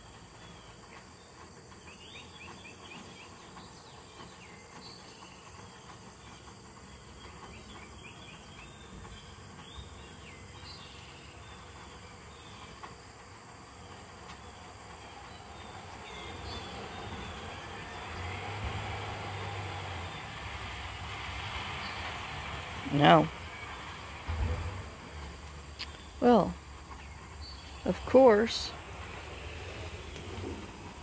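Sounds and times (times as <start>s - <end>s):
bird singing: 0.0s - 13.1s, 13.7s - 20.8s, 21.7s - 28.8s
insects droning: 0.0s - 31.0s
vehicle approaching on road: 0.0s - 31.0s.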